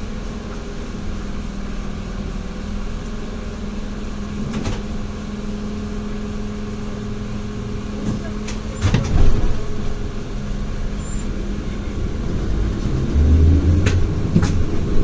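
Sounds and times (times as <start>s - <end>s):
rumbling road noise: 0.0s - 15.0s
trolleybus electrical hum: 0.0s - 15.0s.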